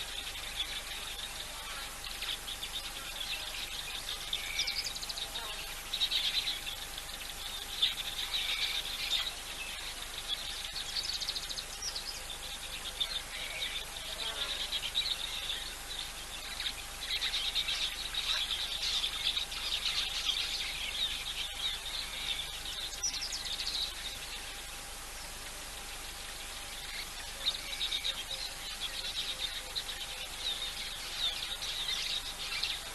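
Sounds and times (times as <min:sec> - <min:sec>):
faint steady tone: 0:00.0 - 0:32.9
insects buzzing trills: 0:00.0 - 0:32.9.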